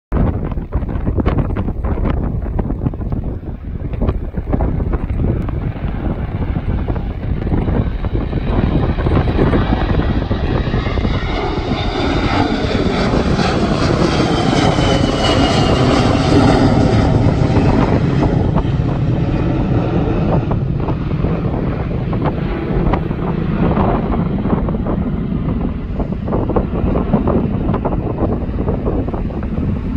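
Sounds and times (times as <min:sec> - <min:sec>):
high jet whine falling in pitch: 0:00.1 - 0:29.9
jet engines roaring: 0:00.1 - 0:29.9.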